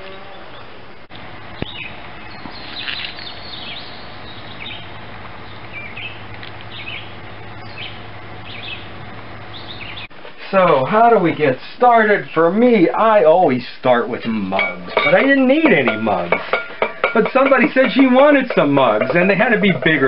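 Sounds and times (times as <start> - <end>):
songbirds chirping: 0.0 - 20.0
steady low hum: 0.1 - 12.4, 14.0 - 20.0.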